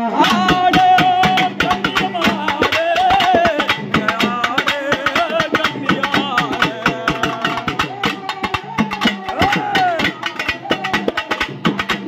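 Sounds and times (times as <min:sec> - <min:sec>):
man singing into a microphone: 0:00.0 - 0:08.1, 0:09.2 - 0:11.0
fast steady drumming: 0:00.0 - 0:12.0.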